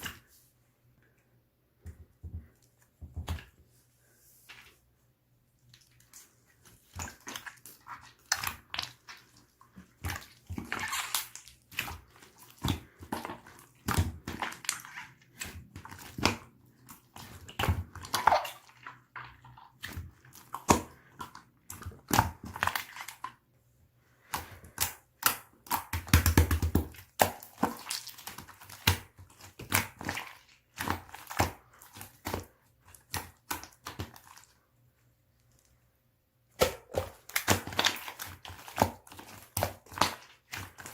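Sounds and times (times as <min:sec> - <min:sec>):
slime squelching: 0:01.8 - 0:40.9.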